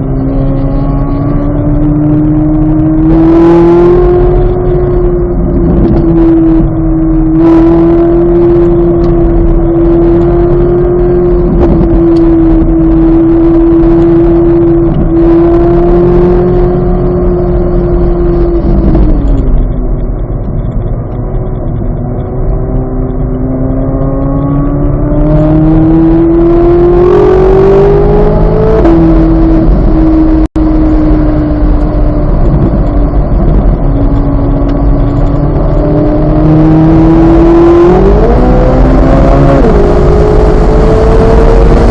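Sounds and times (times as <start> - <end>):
sports car engine revving: 0.0 - 41.9.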